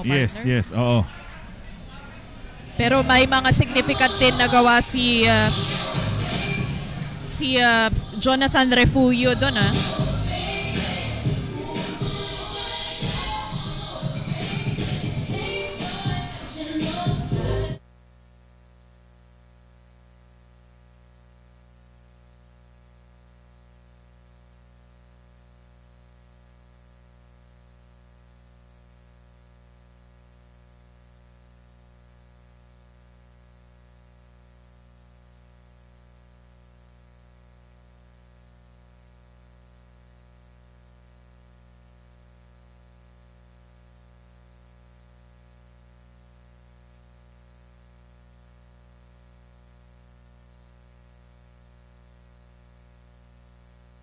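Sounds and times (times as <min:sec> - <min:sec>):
electrical hum and buzz: 0:00.0 - 0:54.0.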